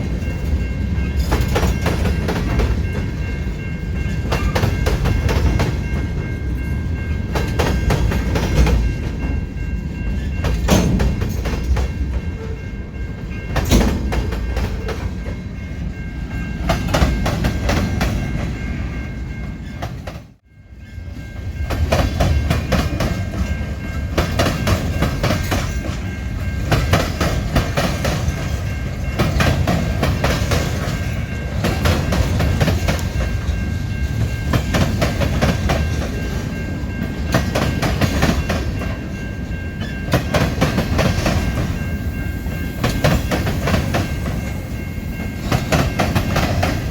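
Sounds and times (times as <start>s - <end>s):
train wheels clicking over rail joints: 0.0s - 6.4s, 7.0s - 20.4s, 21.0s - 46.9s
train rumbling: 0.0s - 46.9s.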